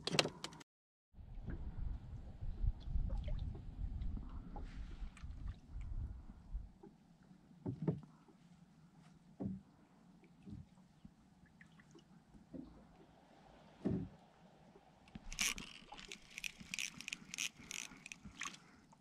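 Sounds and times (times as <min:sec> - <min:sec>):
water lapping against boat hull: 0:01.3 - 0:19.0.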